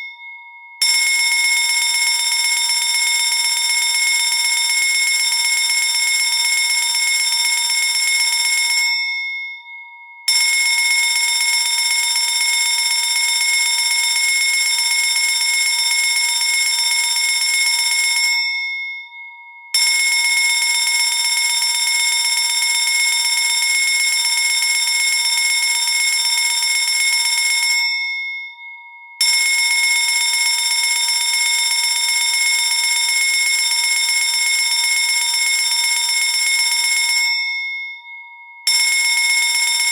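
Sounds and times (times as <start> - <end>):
fire alarm bell ringing: 0.0 - 39.9.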